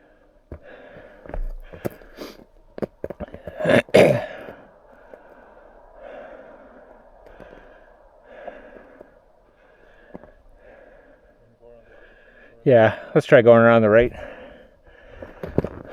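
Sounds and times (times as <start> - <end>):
breathy burst: 0.0 - 13.2, 14.1 - 15.9
heavy breathing: 0.0 - 13.2, 14.0 - 15.9.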